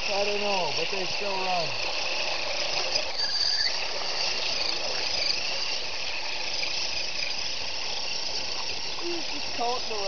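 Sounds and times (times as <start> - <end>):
electric motor whining: 0.0 - 10.0
steady hiss: 0.0 - 10.0.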